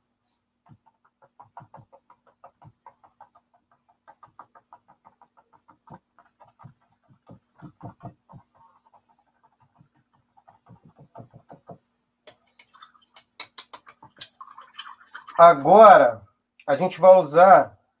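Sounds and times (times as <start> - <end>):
paintbrush dabbing on canvas: 0.0 - 15.8.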